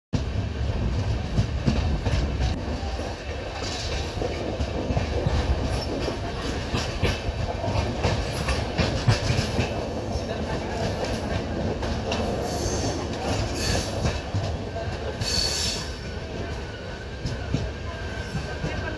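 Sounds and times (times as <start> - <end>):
train wheels rumbling on track: 0.1 - 18.9
wheels clicking over rail joints: 0.3 - 15.7.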